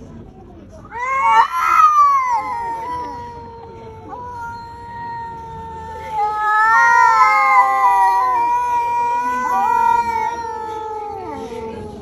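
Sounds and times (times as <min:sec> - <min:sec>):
cats yowling: 0:00.8 - 0:12.0.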